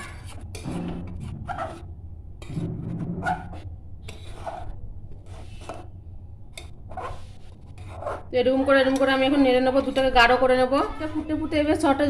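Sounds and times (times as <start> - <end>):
spoon scraping a pot: 0.0 - 2.6, 3.2 - 5.9, 6.5 - 11.5
steady low hum: 0.2 - 10.7.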